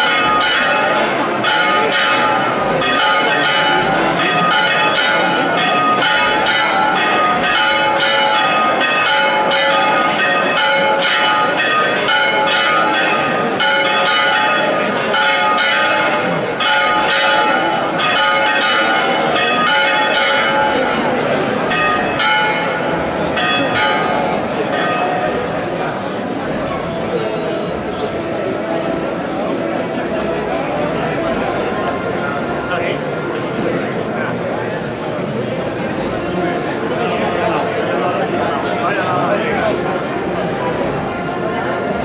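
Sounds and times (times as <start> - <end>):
church bells pealing: 0.0 - 42.0.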